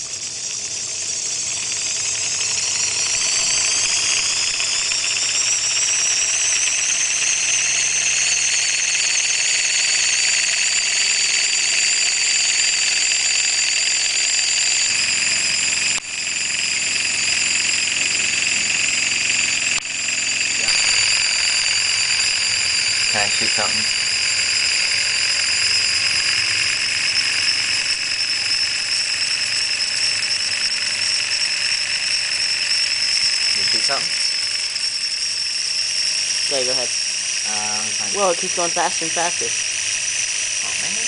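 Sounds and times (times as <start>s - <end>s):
motor whine spinning wheel: 0.0s - 41.0s.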